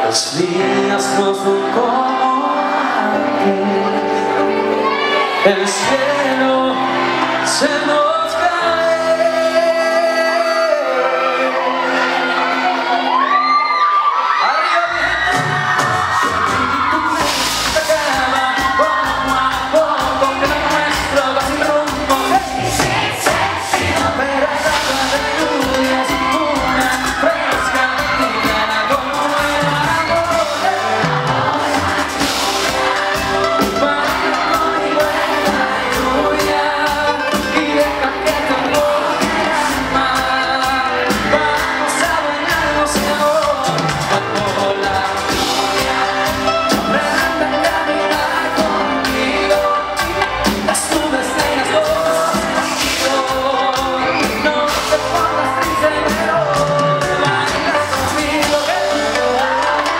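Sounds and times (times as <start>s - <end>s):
crowd noise: 0.0s - 59.9s
lead voice singing: 0.0s - 59.9s
live band playing pop song: 0.0s - 59.9s.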